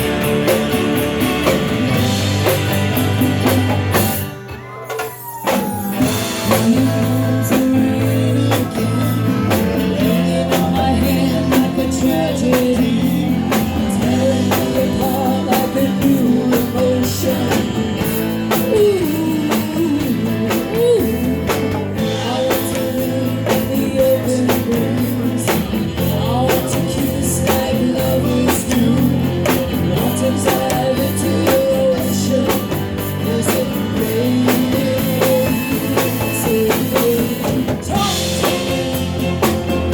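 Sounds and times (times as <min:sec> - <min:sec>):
bass guitar: 0:00.0 - 0:39.9
drum kit: 0:00.0 - 0:39.9
electric guitar: 0:00.0 - 0:39.9
woman singing: 0:05.3 - 0:39.6.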